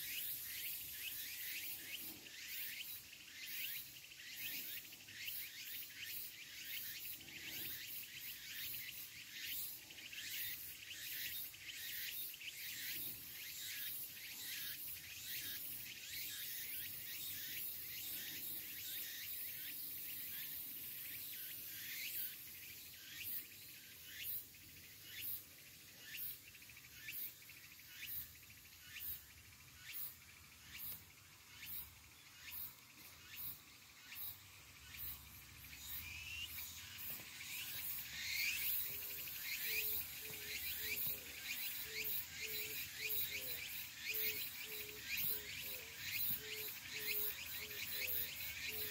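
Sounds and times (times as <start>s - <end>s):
cicadas singing: 0.0s - 48.9s.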